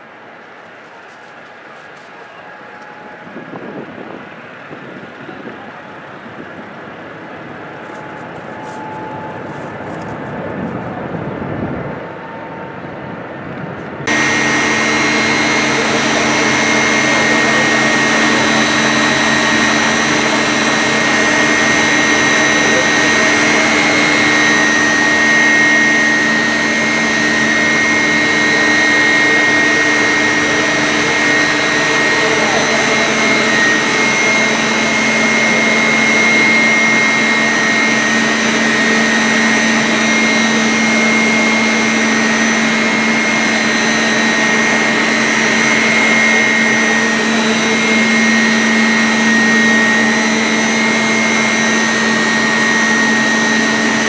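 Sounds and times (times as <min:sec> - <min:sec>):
pump motors humming with whine: 0:00.0 - 0:54.0.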